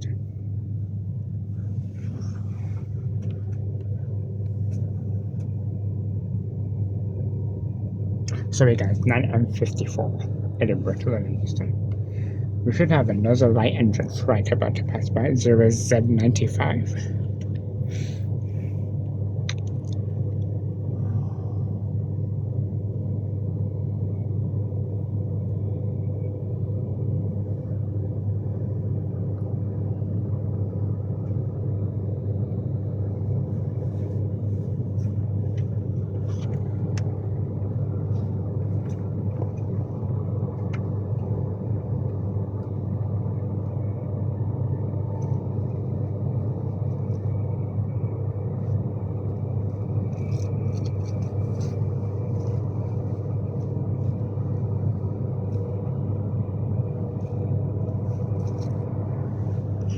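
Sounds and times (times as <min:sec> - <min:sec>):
faint steady tones: 0:00.0 - 0:59.9
train running rumble: 0:00.0 - 0:59.9.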